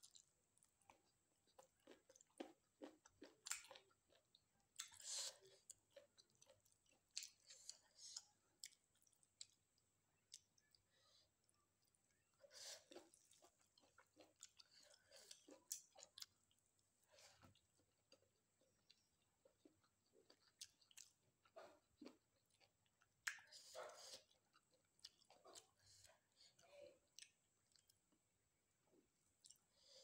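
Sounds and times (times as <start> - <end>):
person chewing food: 0.0 - 28.2, 29.0 - 30.0.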